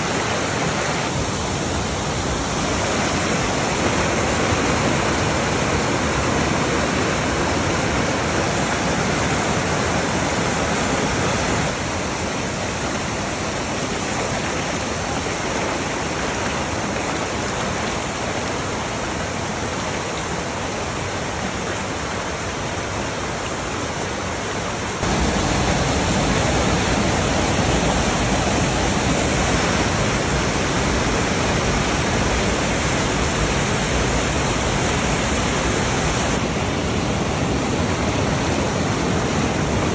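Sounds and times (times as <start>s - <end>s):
water rushing over rocky cascades: 0.0s - 39.9s.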